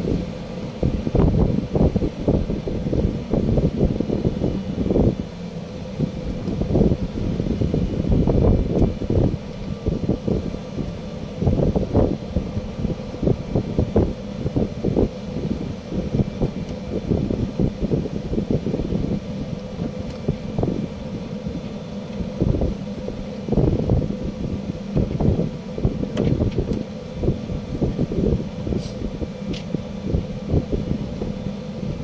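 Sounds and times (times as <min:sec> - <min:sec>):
faint steady hum: 0:00.0 - 0:32.0
wind buffeting microphone: 0:00.0 - 0:32.0.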